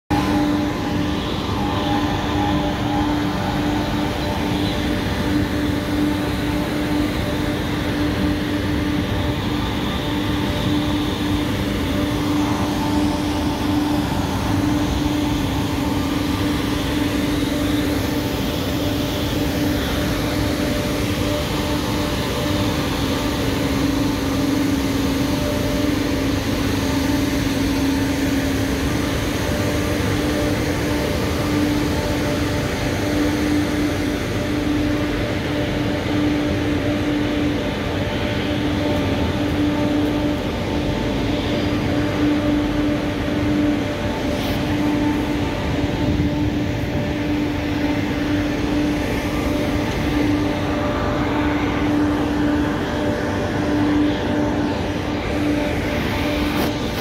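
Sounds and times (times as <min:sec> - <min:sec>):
industrial machinery drone: 0:00.0 - 0:57.0.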